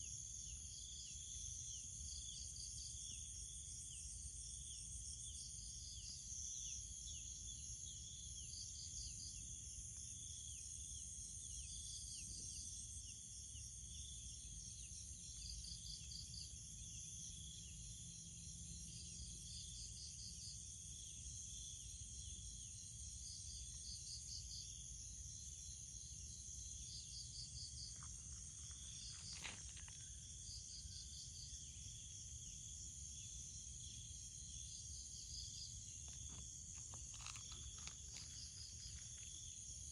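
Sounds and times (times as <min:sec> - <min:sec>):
insects trilling: 0:00.0 - 0:39.9
pulsed insect call: 0:00.0 - 0:39.9.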